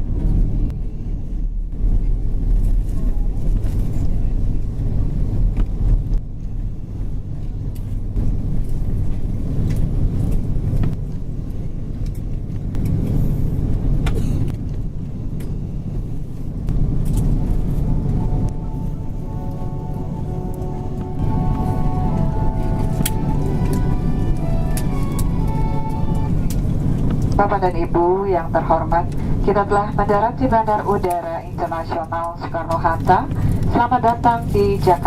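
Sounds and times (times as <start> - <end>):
airplane cabin rumble: 0.0 - 35.0.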